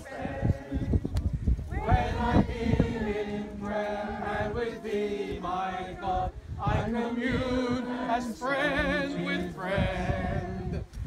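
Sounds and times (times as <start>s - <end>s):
group singing a hymn unaccompanied: 0.0s - 11.0s.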